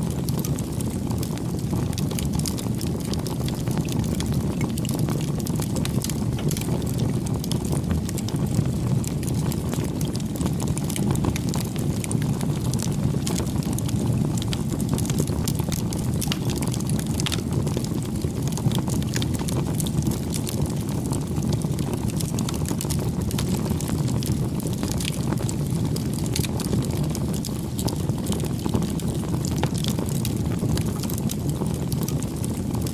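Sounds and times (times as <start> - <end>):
low rush of flames: 0.0 - 32.9
wood crackling and popping: 0.0 - 32.9.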